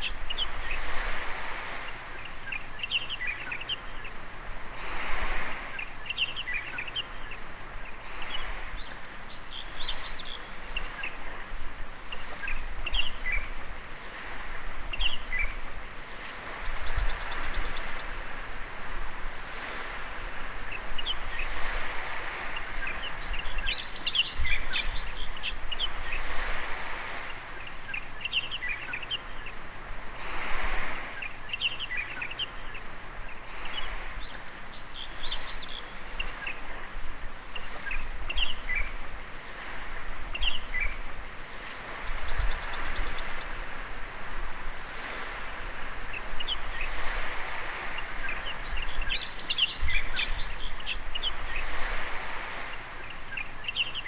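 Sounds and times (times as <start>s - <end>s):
small birds chirping: 0.0s - 54.0s
waves lapping a beach: 0.0s - 54.0s.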